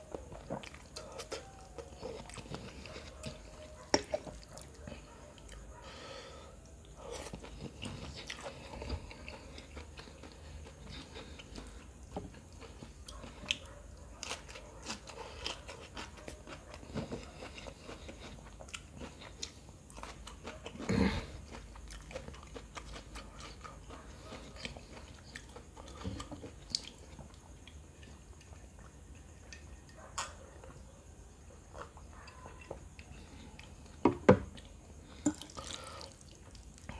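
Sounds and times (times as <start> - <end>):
person chewing and smacking: 0.0 - 5.7, 6.7 - 30.9, 31.6 - 36.9.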